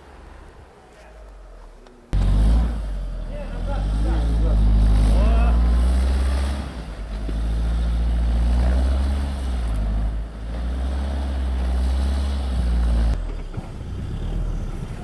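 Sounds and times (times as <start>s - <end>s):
car engine pulling hard: 0.0s - 15.0s
wheels spinning in snow: 0.0s - 15.0s.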